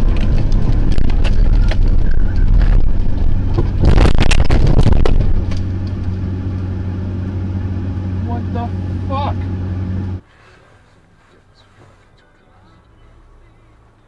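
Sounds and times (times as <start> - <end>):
car rumbling through snow: 0.0 - 14.0.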